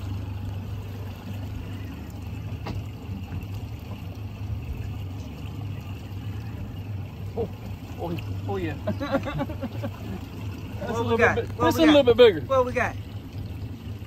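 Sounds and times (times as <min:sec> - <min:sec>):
water sloshing around boat: 0:00.0 - 0:14.0.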